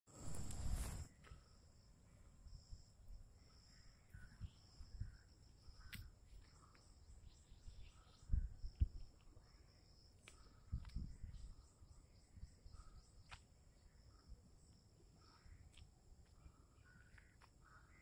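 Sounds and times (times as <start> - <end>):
insects trilling: 0.1 - 18.0.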